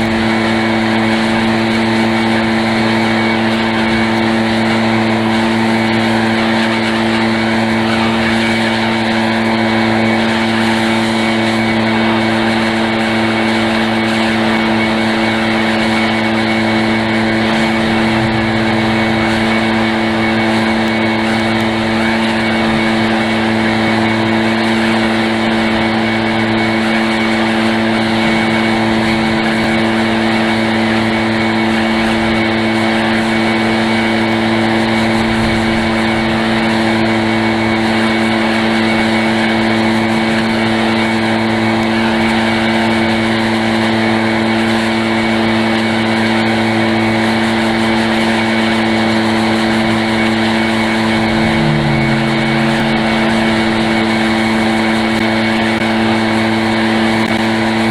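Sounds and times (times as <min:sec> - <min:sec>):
small gasoline engine droning: 0:00.0 - 0:57.9.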